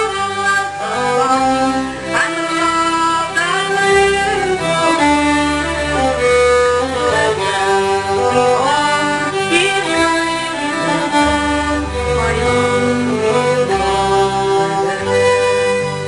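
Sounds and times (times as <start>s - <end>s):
deep held accompanying notes: 0.0s - 16.0s
fiddle melody: 0.0s - 16.0s.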